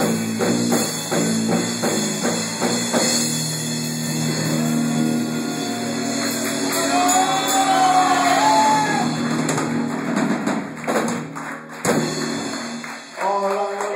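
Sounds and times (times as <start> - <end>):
bass: 0.0 - 13.9
drums: 0.0 - 13.9.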